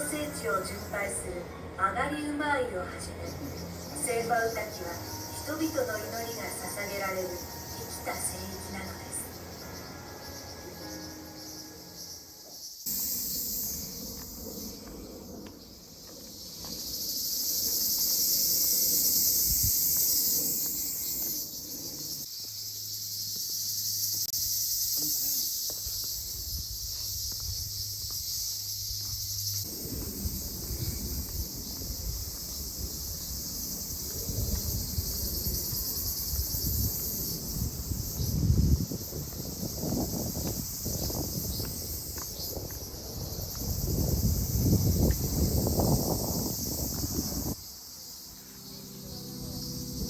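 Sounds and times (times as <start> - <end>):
insects shrilling chorus: 0.0 - 50.0.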